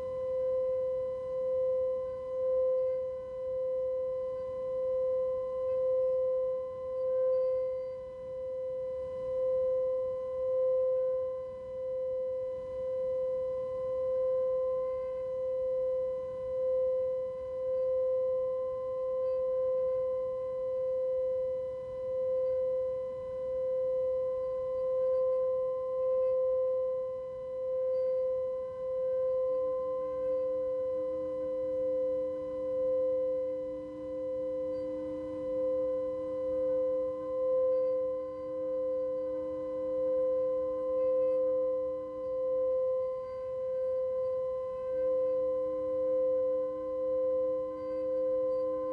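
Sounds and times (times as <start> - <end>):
lower bowl tone: 0.0 - 48.9
singing bowl ringing: 0.0 - 48.9.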